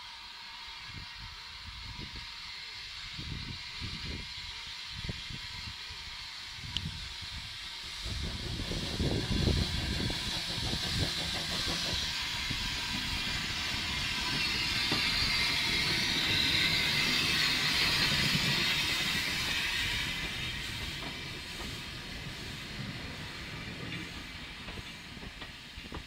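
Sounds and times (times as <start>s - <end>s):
steam hissing: 0.0s - 26.0s
steam locomotive exhaust beats: 0.0s - 26.0s.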